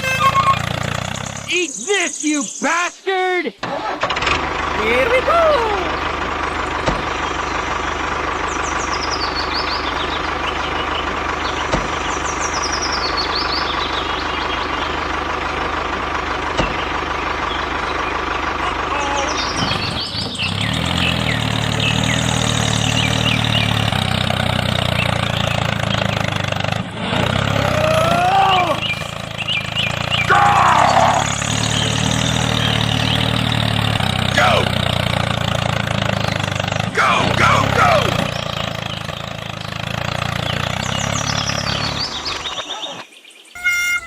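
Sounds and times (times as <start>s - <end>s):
engine running: 0.0s - 2.8s, 3.6s - 44.0s.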